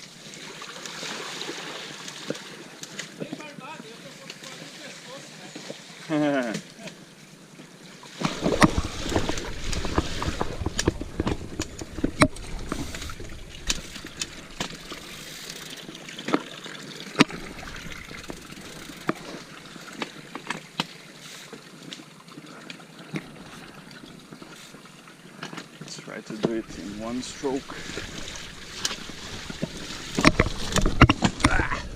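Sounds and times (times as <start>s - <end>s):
water splashing around wheels: 0.0s - 31.9s.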